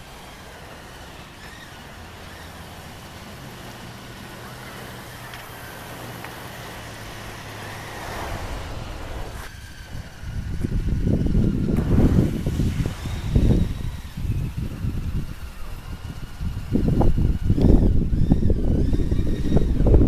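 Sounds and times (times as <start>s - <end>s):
low hum: 0.0s - 20.0s
squeegee scraping asphalt: 0.0s - 20.0s.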